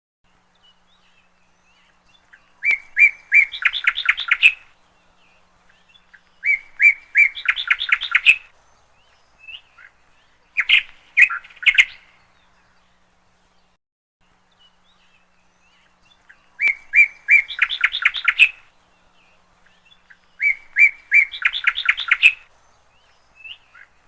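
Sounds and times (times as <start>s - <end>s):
bird chirping: 0.3s - 24.0s.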